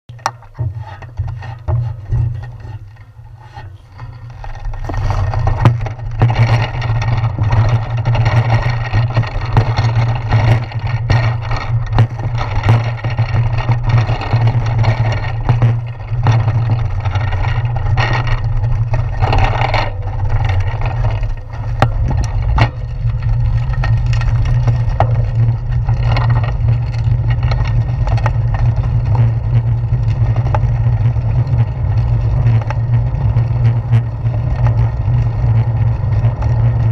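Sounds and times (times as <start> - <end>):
bicycle rattling over bumps: 0.1 - 36.9
wind and road rumble: 0.1 - 36.9.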